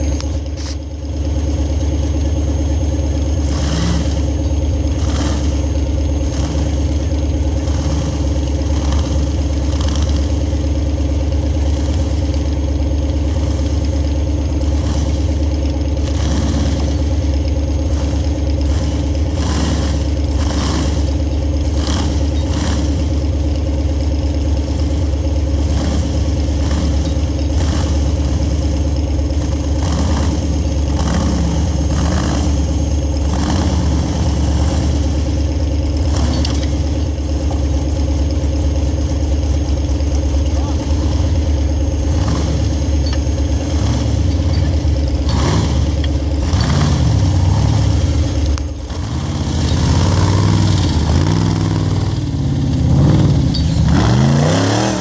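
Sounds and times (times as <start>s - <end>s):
engine running at low revs: 0.0s - 55.0s.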